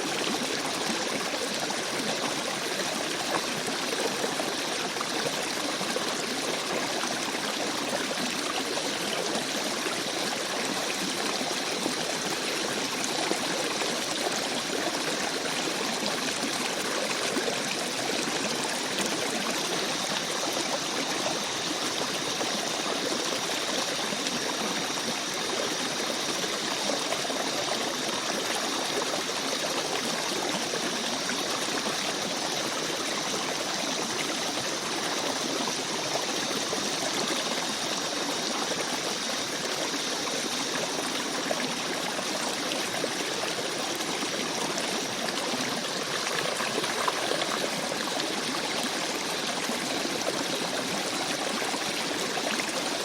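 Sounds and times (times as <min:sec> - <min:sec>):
stream running: 0:00.0 - 0:53.0.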